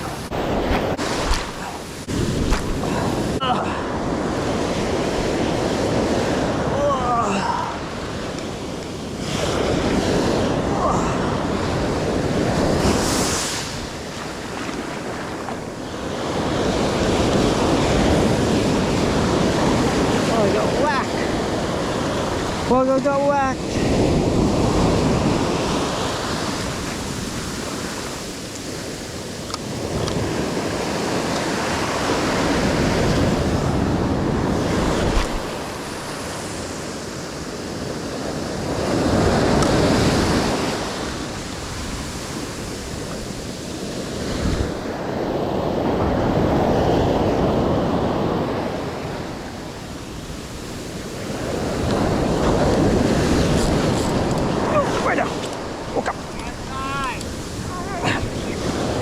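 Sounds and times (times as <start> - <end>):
ocean surf washing: 0.0 - 59.0
wind buffeting microphone: 0.0 - 59.0.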